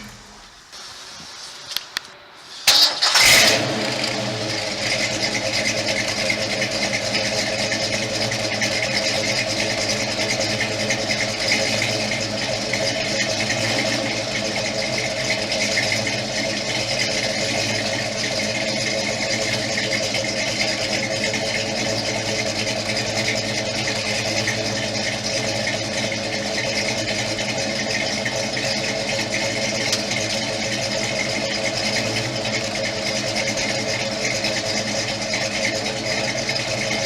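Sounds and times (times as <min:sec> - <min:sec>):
car engine starting and idling: 0:01.7 - 0:37.0
engine clicks: 0:02.7 - 0:37.0.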